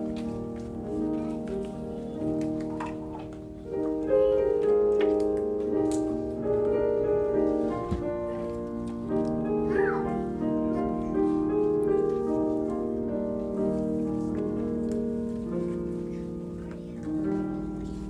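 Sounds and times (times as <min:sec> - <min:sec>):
keyboard slow held chords: 0:00.0 - 0:18.0.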